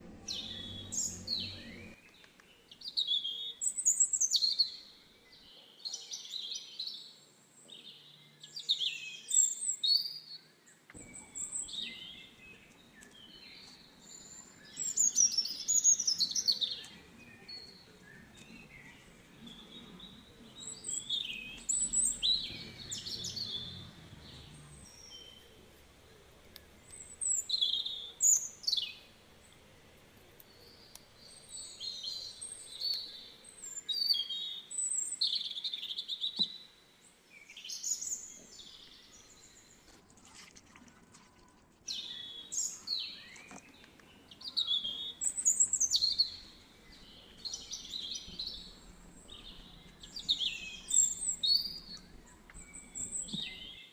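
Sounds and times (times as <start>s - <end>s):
birds chirping: 0.0s - 40.0s, 41.9s - 53.9s
faint low background noise: 0.0s - 53.9s.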